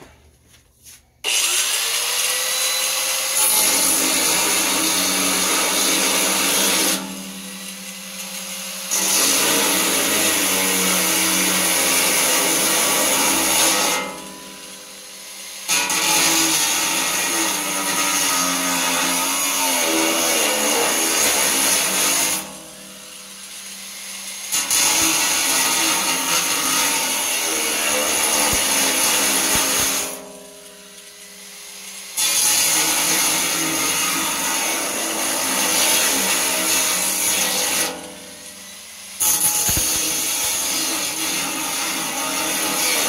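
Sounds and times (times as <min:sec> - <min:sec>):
angle grinder cutting aluminum: 0:01.2 - 0:43.0.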